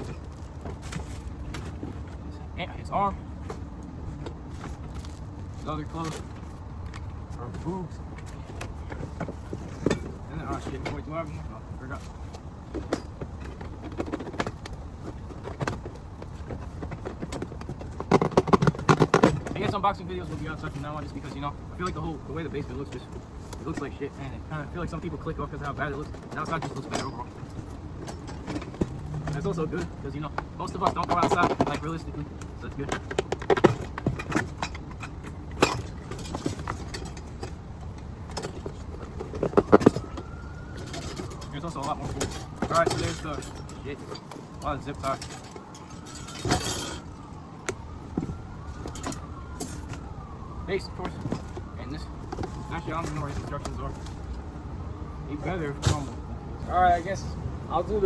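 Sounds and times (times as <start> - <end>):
knocks and clatter of handled parts: 0.0 - 54.7
low outdoor background hum: 0.0 - 58.0.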